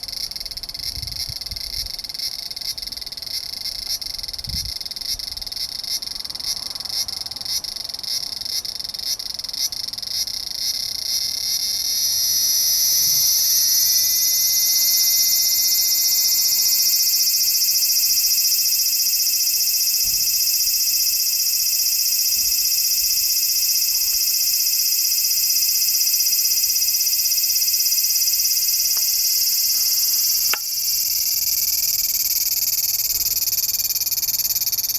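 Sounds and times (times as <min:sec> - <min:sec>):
cicada buzzing: 0:00.0 - 0:34.9.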